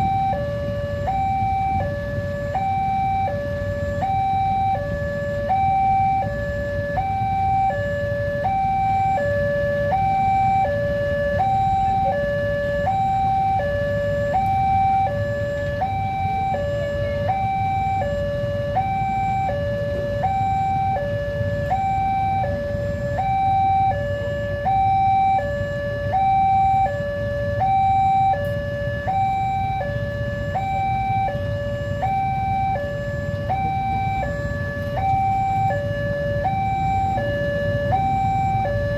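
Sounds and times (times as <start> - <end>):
two-tone crossing alarm: 0.0 - 38.9.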